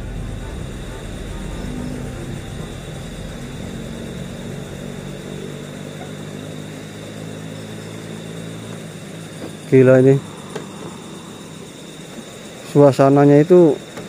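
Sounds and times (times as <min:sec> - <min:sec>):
distant engine drone: 0:00.0 - 0:14.0.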